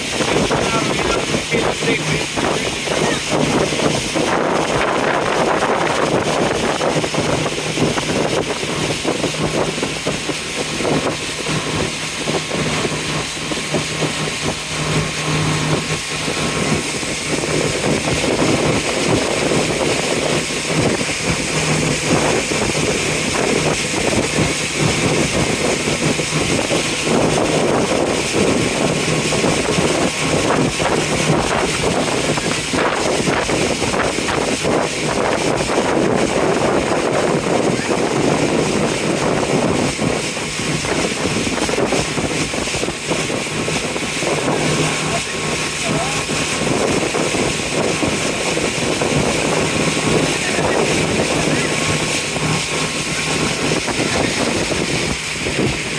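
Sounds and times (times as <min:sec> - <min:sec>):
boat engine humming: 0:00.0 - 0:55.9
water noise: 0:00.0 - 0:55.9
wind: 0:00.0 - 0:55.9.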